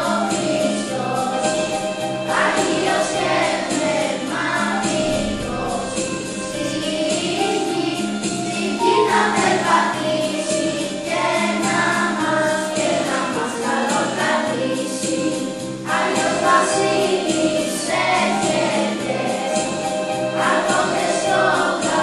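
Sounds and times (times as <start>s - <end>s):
choir singing a carol: 0.0s - 22.0s
instrumental accompaniment with bass line: 0.0s - 22.0s.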